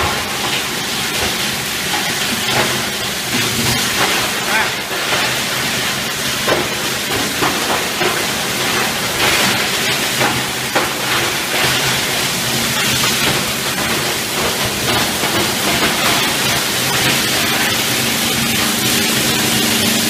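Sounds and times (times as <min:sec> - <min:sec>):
plastic granulator running: 0:00.0 - 0:20.0.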